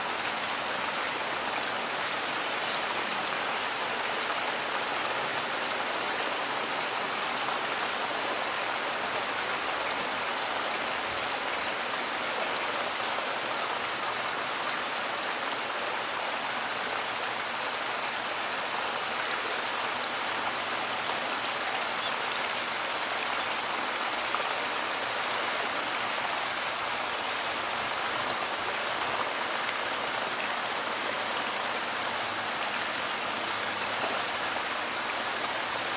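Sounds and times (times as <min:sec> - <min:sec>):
running water rushing: 0:00.0 - 0:35.9.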